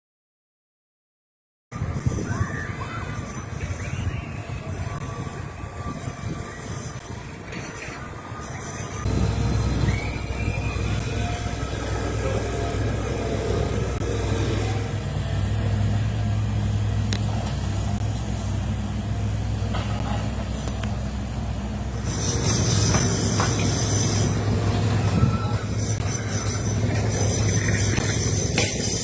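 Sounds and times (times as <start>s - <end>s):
large vehicle engine rumble: 1.8s - 29.0s.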